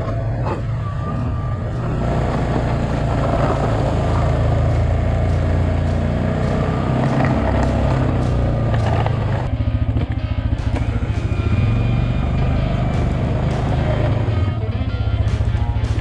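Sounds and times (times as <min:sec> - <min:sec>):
atv engine running under load: 0:00.0 - 0:16.0.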